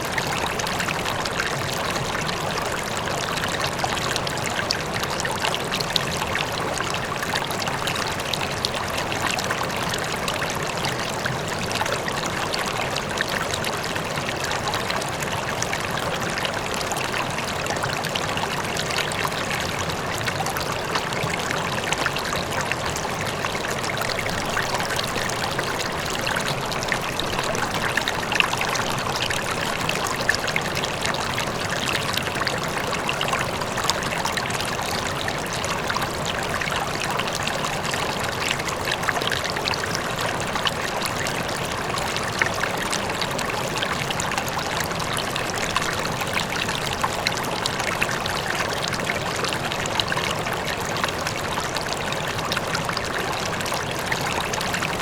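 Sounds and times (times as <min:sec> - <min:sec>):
faint waterfall: 0:00.0 - 0:55.0
river water flowing over rocks: 0:00.0 - 0:55.0.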